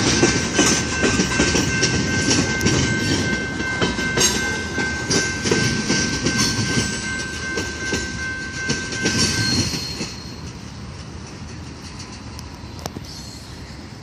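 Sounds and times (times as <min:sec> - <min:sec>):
wheels clicking over rail joints: 0:00.0 - 0:14.0.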